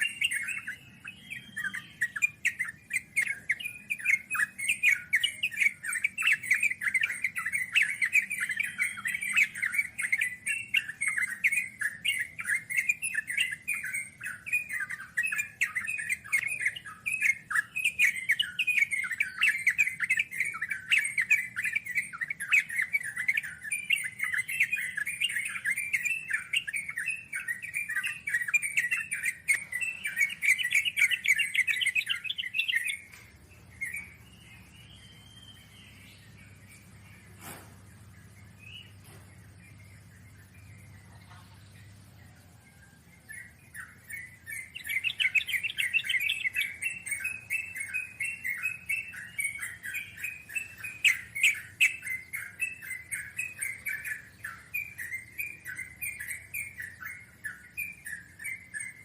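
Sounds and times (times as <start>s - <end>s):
birds chattering: 0.0s - 59.0s.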